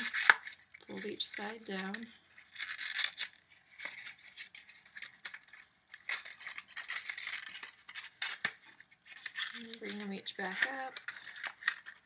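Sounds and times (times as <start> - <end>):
paper creasing and rustling: 0.0 - 12.0.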